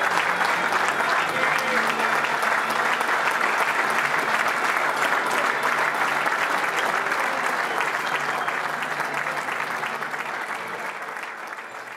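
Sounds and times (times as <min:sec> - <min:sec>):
crowd applauding: 0:00.0 - 0:11.9.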